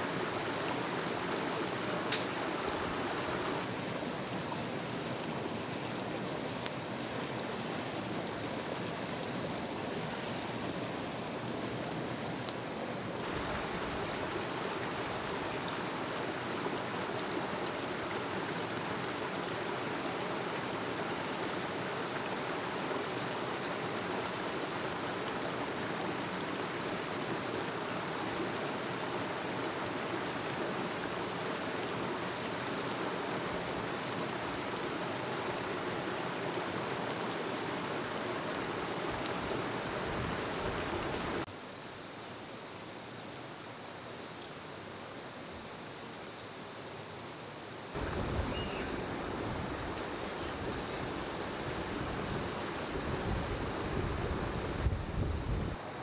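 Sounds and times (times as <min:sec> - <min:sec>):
mountain stream and small waterfall: 0:00.0 - 0:56.0.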